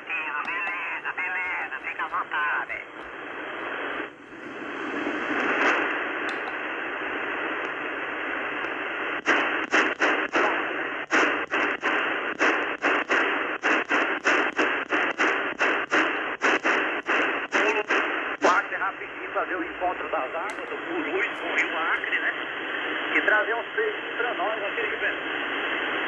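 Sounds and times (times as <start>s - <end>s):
shortwave receiver hissing: 0.0s - 23.3s.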